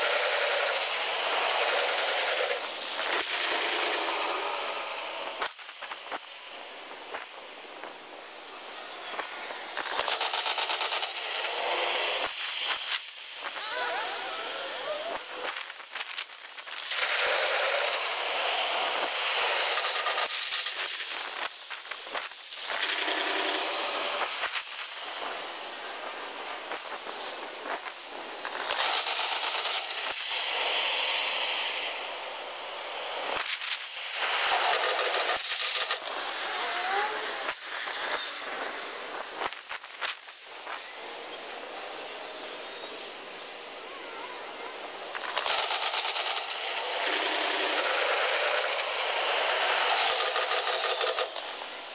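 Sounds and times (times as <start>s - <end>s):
sped-up train rumble hiss: 0.0s - 51.9s.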